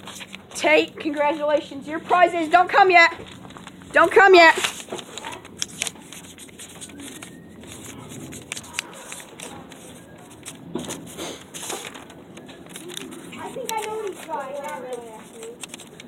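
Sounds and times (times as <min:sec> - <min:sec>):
handling rustles and scrapes: 0:00.0 - 0:16.0.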